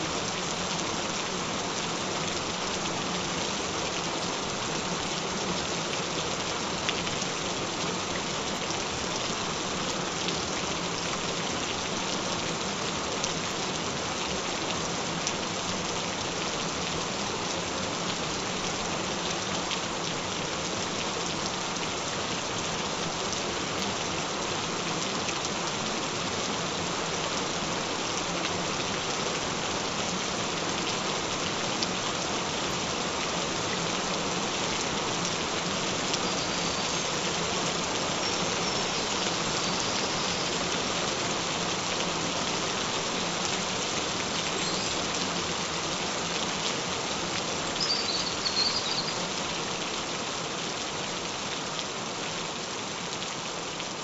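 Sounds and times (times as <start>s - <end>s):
gentle rain hissing: 0.0s - 54.0s.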